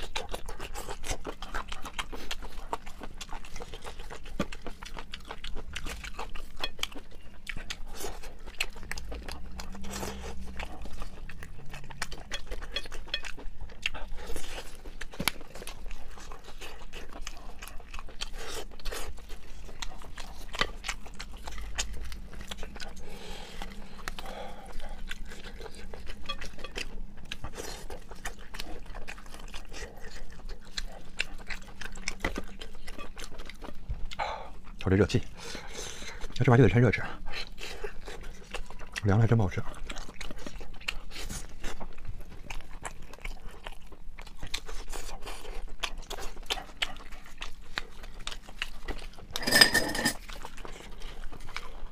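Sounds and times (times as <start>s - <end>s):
wet chewing and smacking: 0.0s - 49.4s, 50.0s - 51.9s.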